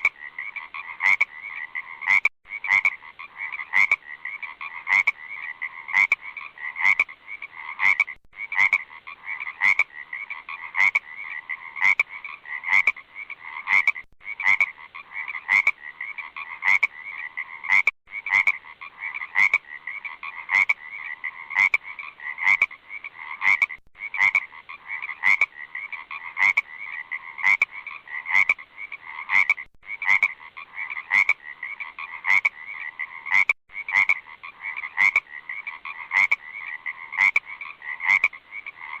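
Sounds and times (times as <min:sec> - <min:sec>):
frogs croaking in chorus: 0:00.0 - 0:39.0
loud sharp frog calls: 0:00.0 - 0:39.0.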